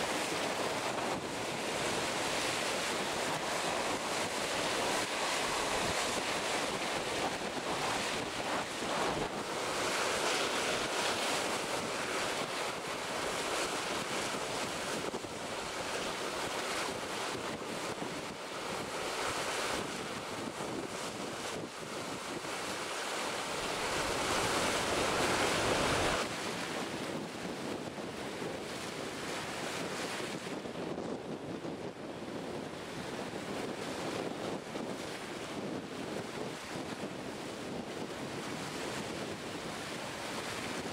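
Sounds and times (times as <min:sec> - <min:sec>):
water rushing along a hull: 0:00.0 - 0:40.9
wind buffeting microphone: 0:00.0 - 0:40.9.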